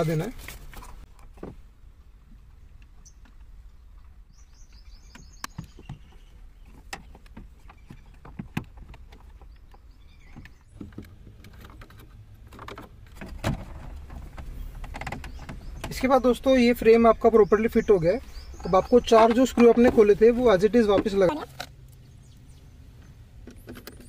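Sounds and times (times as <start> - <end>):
bird chirping: 2.5 - 12.2, 13.9 - 24.0.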